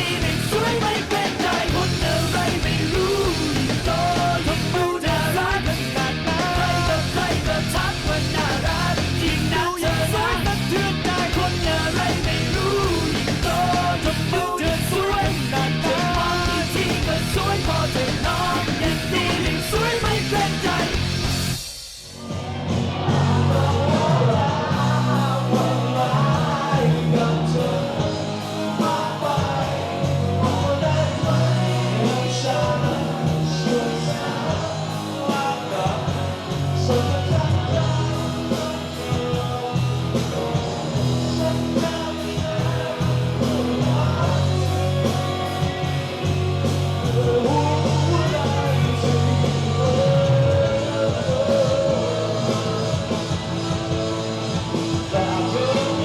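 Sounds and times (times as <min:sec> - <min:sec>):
bass line: 0:00.0 - 0:56.0
lead singer: 0:00.0 - 0:56.0
live rock band playing: 0:00.0 - 0:56.0.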